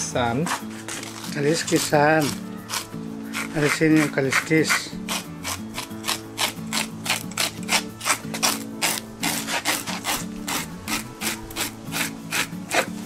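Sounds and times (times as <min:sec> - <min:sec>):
fish scaler scraping scales: 0:00.2 - 0:13.0.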